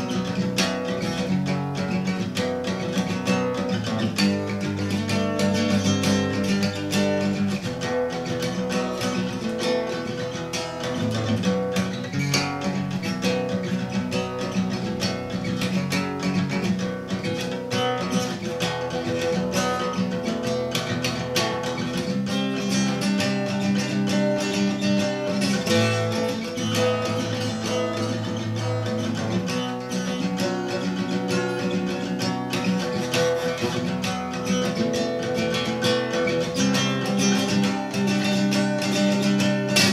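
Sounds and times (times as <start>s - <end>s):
acoustic guitar strumming chords: 0.0s - 39.9s.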